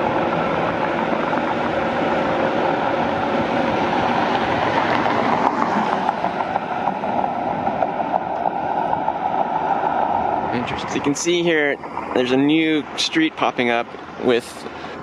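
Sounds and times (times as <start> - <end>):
road noise of moving vehicles: 0.0 - 15.0.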